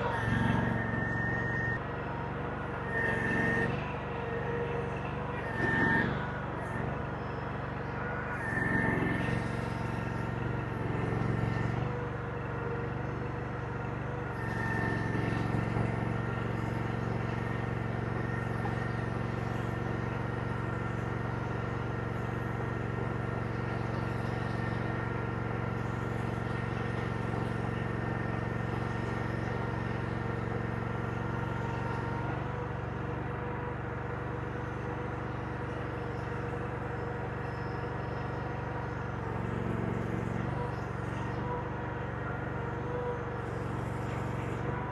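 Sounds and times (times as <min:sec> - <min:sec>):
diesel digger engine working: 0:00.0 - 0:44.9.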